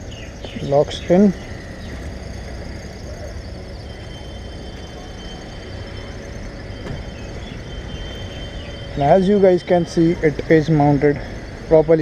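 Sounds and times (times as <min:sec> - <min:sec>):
faint high whine: 0:00.0 - 0:12.0
low background rumble: 0:00.0 - 0:12.0.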